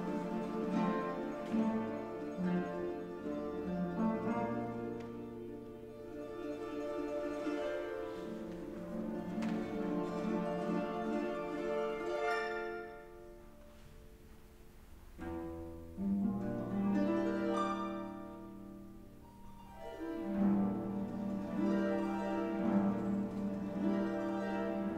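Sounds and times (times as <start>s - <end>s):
harp playing solo: 0.0s - 13.6s, 15.2s - 24.9s.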